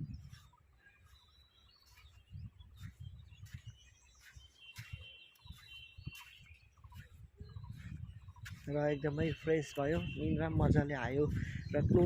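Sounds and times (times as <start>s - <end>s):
birds chirping and whistling: 0.0s - 12.0s
faint low thumps: 2.1s - 12.0s.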